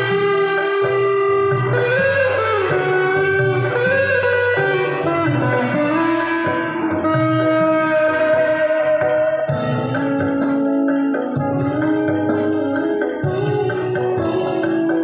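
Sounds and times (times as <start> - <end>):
electric guitar melody: 0.0 - 15.0
low bass notes: 0.0 - 15.0.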